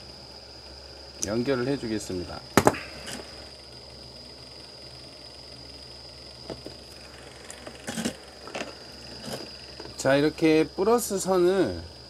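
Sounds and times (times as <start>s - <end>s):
faint high whine: 0.0s - 12.0s
steady low hum: 0.0s - 12.0s.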